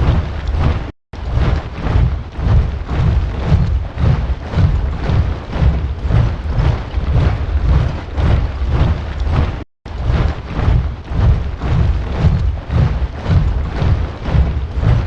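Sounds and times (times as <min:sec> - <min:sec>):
soldiers marching in step: 0:00.0 - 0:15.0.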